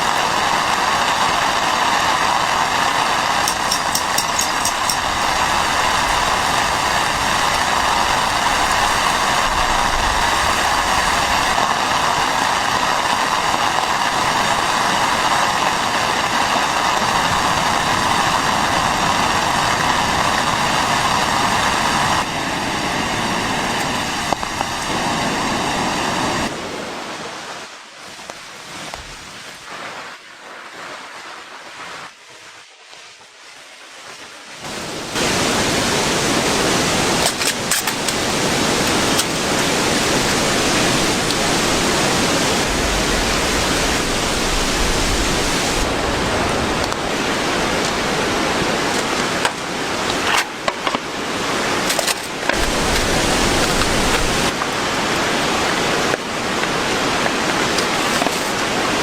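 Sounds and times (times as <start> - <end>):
heavy rain: 0.0 - 59.0
wind: 0.0 - 59.0.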